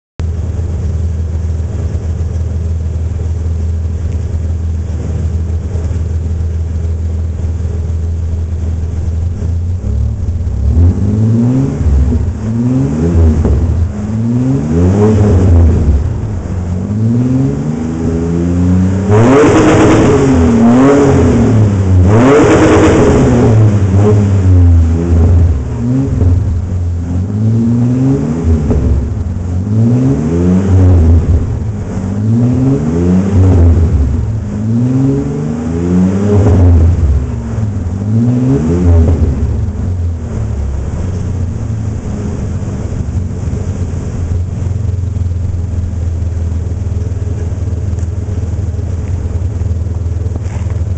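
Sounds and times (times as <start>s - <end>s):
car engine revving: 0.2s - 50.9s.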